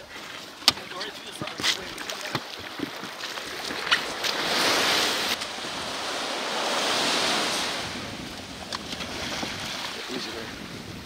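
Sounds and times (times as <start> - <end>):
small waves breaking on shore: 0.0 - 11.0.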